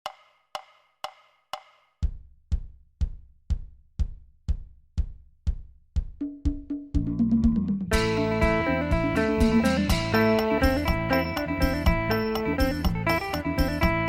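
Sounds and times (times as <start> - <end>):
background music with drum beat: 0.1 - 14.0
deep kick drum: 2.0 - 14.0.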